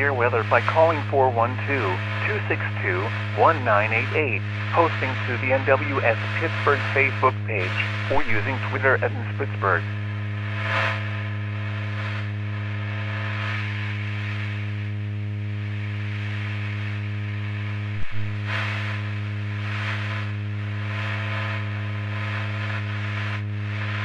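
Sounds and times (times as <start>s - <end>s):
low droning hum: 0.0s - 24.0s.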